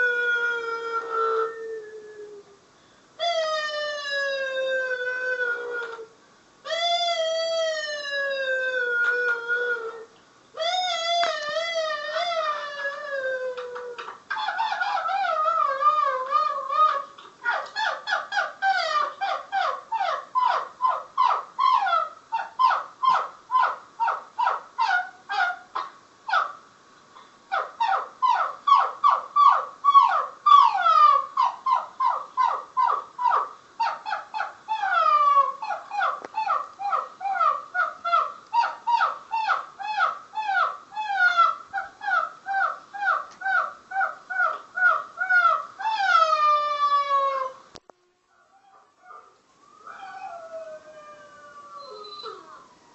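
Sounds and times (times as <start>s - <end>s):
animal's high-pitched calls: 3.2s - 26.6s, 27.5s - 47.6s, 48.3s - 52.9s.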